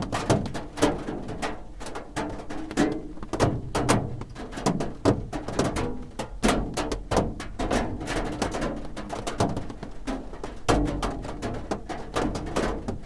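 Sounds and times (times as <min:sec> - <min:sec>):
raindrops drumming on roof: 0:00.0 - 0:13.0.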